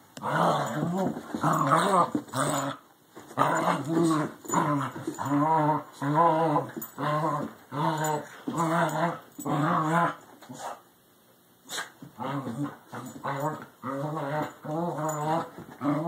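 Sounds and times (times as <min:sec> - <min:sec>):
dogs play-growling: 0:00.2 - 0:10.8, 0:11.7 - 0:16.0.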